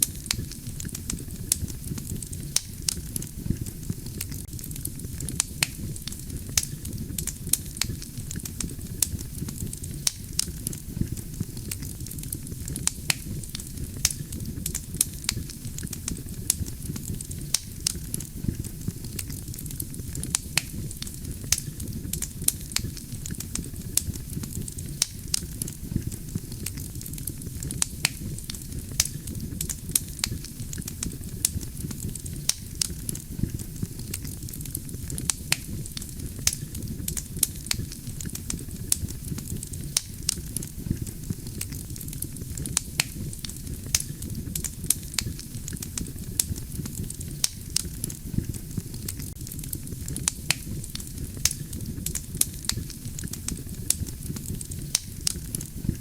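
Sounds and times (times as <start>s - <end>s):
burning logs crackling and popping: 0.0s - 56.0s
low rumble of flame: 0.0s - 56.0s.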